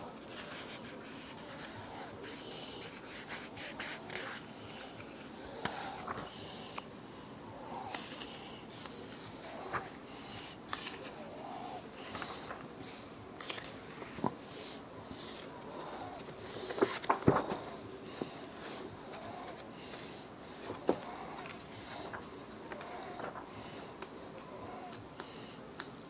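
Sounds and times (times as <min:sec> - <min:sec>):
book pages turning: 0:00.3 - 0:06.9, 0:07.6 - 0:25.9.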